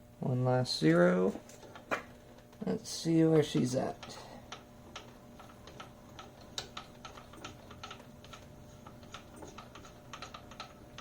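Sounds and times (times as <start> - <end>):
faint steady hum: 0.0 - 11.0
mill table clicking: 1.2 - 11.0.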